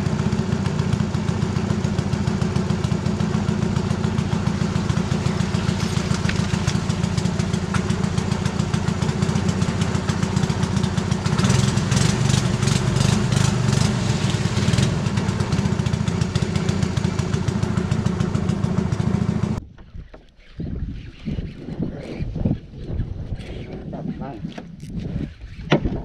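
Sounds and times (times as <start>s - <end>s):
boat engine droning: 0.0s - 25.8s
rapid scratchy rattling: 3.8s - 26.0s.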